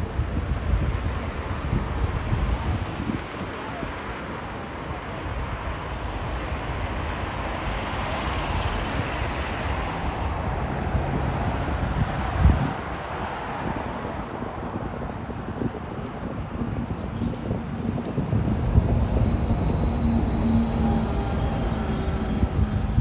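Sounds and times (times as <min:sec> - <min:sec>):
road traffic passing: 0:00.0 - 0:23.0
wind rumbling on microphone: 0:00.0 - 0:23.0.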